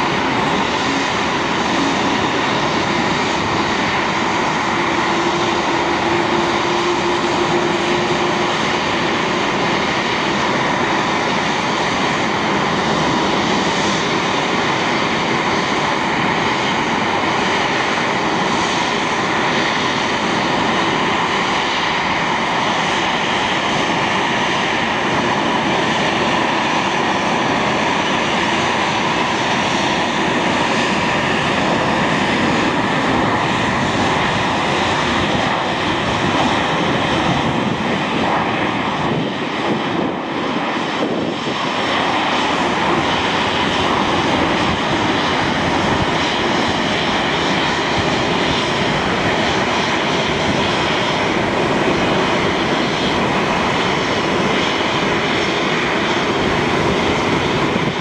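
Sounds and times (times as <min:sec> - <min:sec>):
jet engine whine: 0:00.0 - 0:58.0
jet engines roaring: 0:00.0 - 0:58.0.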